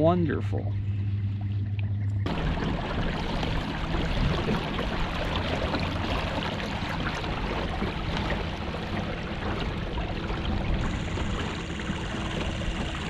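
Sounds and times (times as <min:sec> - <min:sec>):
trolling motor humming: 0:00.0 - 0:13.0
water washing: 0:02.3 - 0:13.0.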